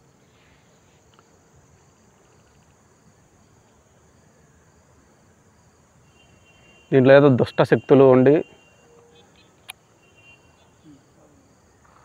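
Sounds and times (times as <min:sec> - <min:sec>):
insect chirping: 0:00.0 - 0:12.0
low steady hiss: 0:00.0 - 0:12.0.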